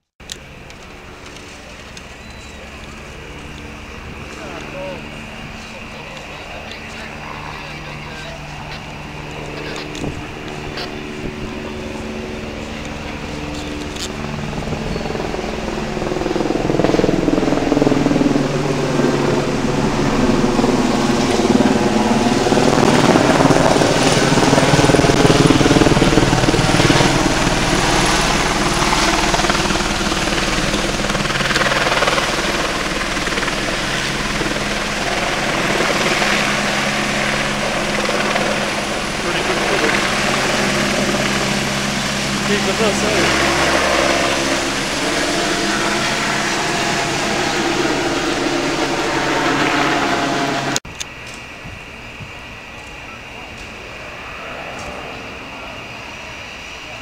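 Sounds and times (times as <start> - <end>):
helicopter rotor and engine drone: 0.2 - 57.0.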